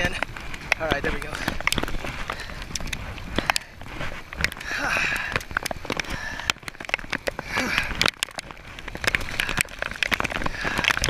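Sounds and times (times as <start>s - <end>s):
sharp ticks and knocks: 0.0s - 11.0s
wind rumble on microphone: 0.0s - 11.0s.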